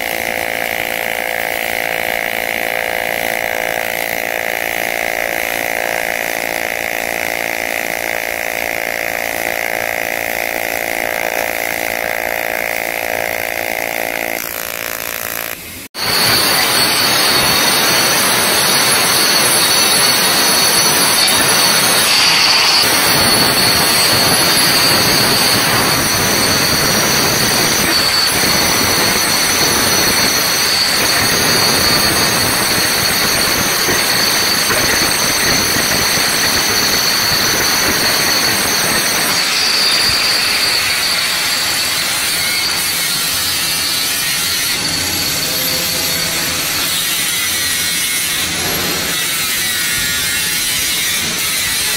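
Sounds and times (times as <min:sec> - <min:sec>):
angle grinder grinding metal pipe: 0:00.0 - 0:51.9.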